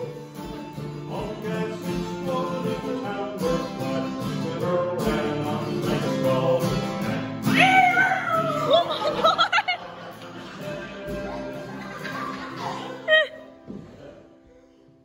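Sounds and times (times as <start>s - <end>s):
acoustic guitars strumming: 0.0s - 14.4s.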